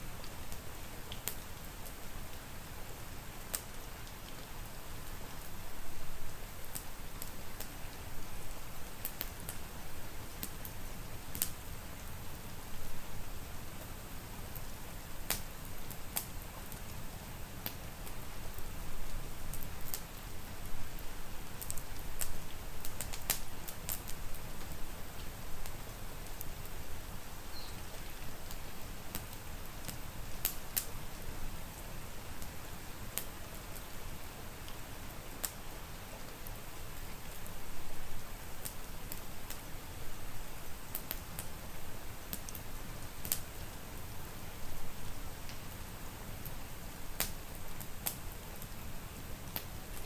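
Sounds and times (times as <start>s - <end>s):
rain hiss: 0.0s - 50.0s
wood fire crackling: 0.0s - 50.0s.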